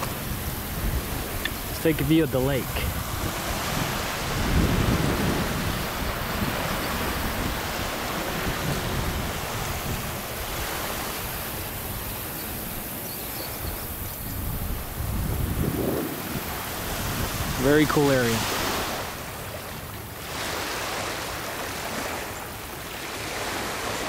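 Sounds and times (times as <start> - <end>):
wind blowing across microphone: 0.0 - 24.0.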